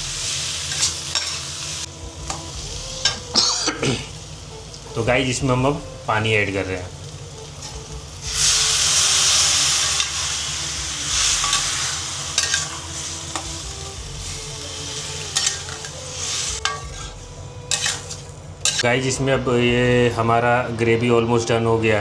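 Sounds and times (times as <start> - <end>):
water sizzling in hot pan: 0.0 - 18.8
gravy sizzling: 0.0 - 19.2.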